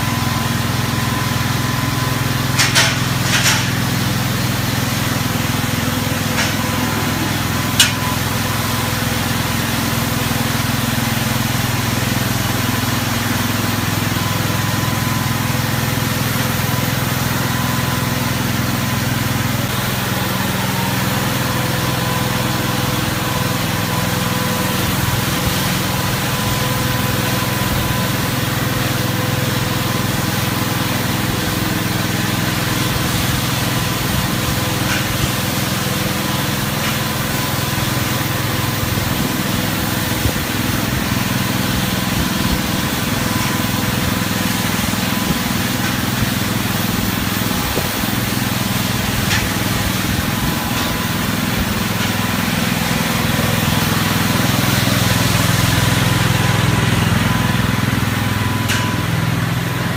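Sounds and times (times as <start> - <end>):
sweeper motor hum: 0.0 - 59.9
thin steady whine: 0.0 - 59.9.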